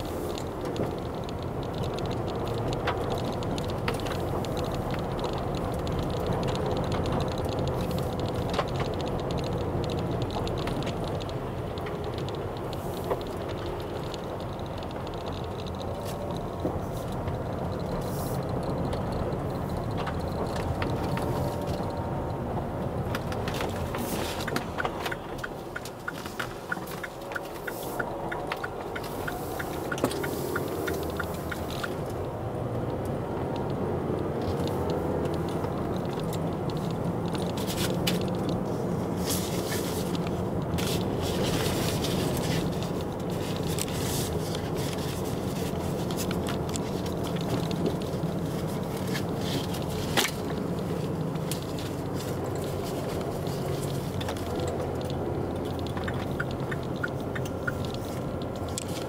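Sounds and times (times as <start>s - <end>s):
engine and tyres on asphalt: 0.0s - 59.0s.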